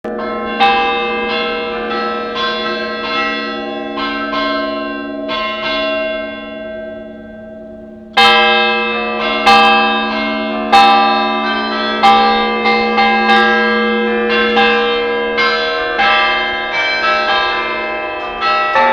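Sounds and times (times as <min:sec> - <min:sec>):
deep bell humming: 0:00.1 - 0:18.9
heavy bell strokes: 0:00.1 - 0:18.9.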